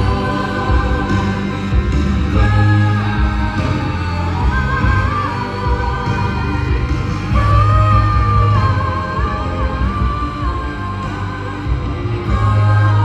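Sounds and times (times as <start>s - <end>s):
live band music: 0.0s - 13.0s.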